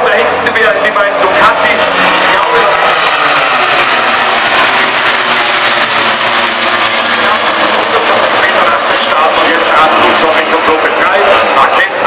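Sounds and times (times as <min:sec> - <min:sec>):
racing motorcycles passing: 0:00.1 - 0:11.6.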